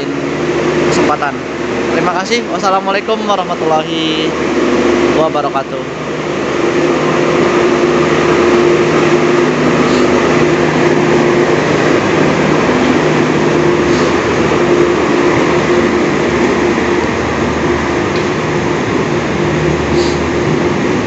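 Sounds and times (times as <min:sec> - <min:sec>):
diesel train engine hum: 0:00.0 - 0:21.0
wheels rumbling on rails: 0:00.0 - 0:21.0.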